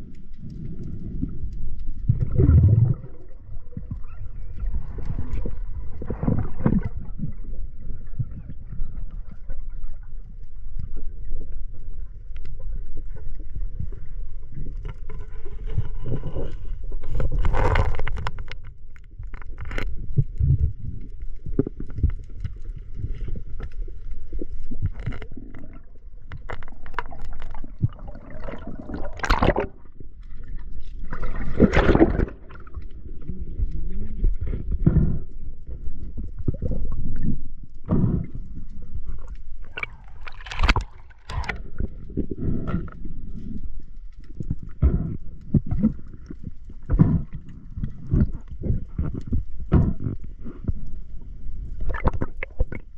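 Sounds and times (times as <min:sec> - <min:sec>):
low rumble: 0:00.0 - 0:17.6, 0:20.2 - 0:52.9
sea water sloshing and gurgling: 0:00.0 - 0:52.9.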